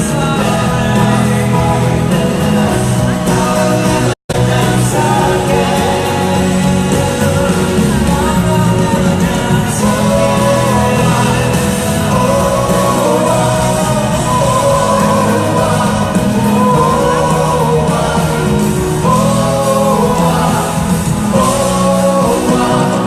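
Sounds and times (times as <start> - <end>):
person singing: 0.0 - 23.0
pop-rock band playing live: 0.0 - 23.0.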